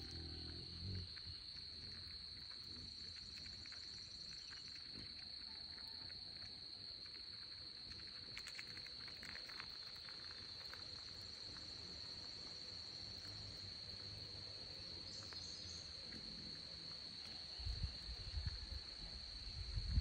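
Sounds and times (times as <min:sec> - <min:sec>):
chipmunk nibbling seeds: 0:00.0 - 0:20.0
high-pitched insect trill: 0:00.0 - 0:20.0.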